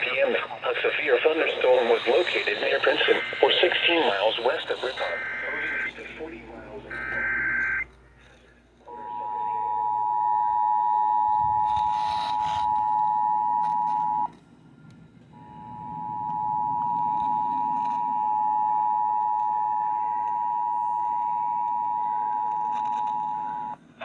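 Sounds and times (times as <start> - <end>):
two-tone alarm: 1.7 - 6.2, 6.8 - 7.9, 8.9 - 14.4, 15.3 - 23.8.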